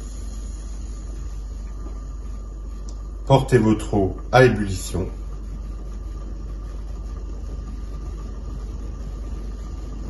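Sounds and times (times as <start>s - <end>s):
pot of water heating: 0.0s - 10.0s.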